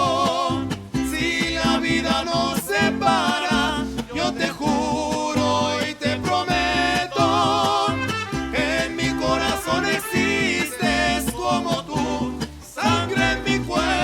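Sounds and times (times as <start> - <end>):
plucked bass line: 0.0 - 14.0
strummed guitar rhythm: 0.0 - 14.0.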